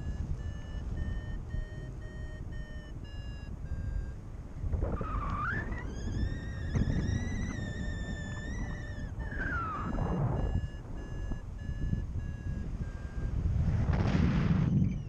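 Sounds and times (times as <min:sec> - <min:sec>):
variometer rising tone: 0:00.0 - 0:14.0
variometer beeps: 0:00.0 - 0:15.0
wind rumble on microphone: 0:00.0 - 0:15.0.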